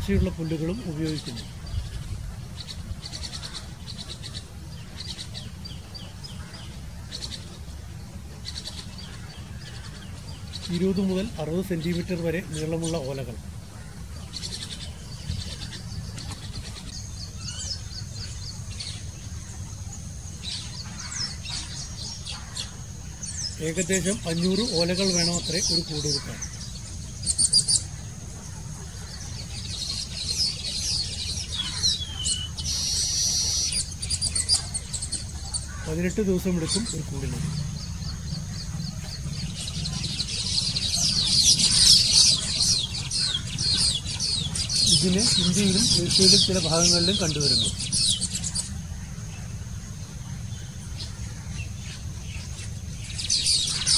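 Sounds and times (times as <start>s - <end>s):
birds chirping and chattering: 0.0s - 53.9s
low steady hum: 0.0s - 53.9s
steady low rumble: 0.0s - 53.9s.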